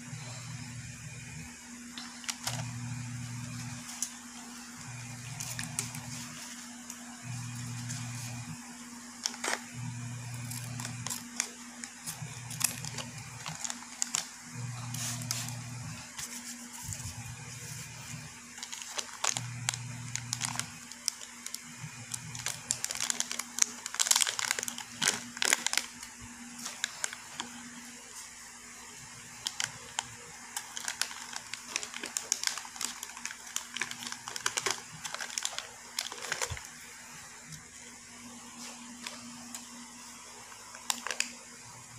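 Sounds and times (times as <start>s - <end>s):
faint low hum: 0.0s - 41.9s
plastic pouch crinkling: 2.0s - 8.5s, 9.1s - 27.7s, 29.3s - 36.8s, 40.4s - 41.4s.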